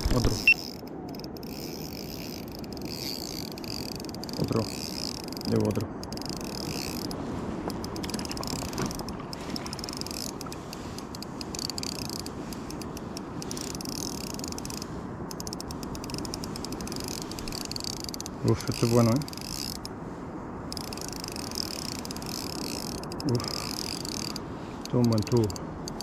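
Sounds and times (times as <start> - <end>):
fishing reel clicking: 0.1 - 19.9, 20.7 - 26.0.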